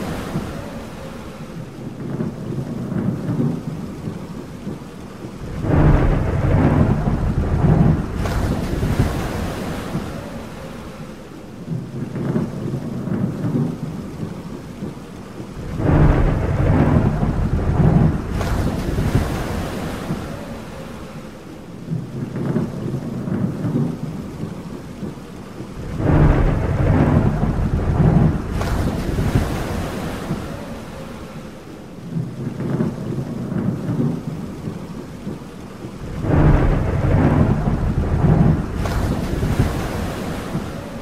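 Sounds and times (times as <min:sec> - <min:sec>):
thunder rolling: 0:00.0 - 0:11.0, 0:11.7 - 0:31.4, 0:32.0 - 0:41.0
steady rain: 0:00.0 - 0:41.0.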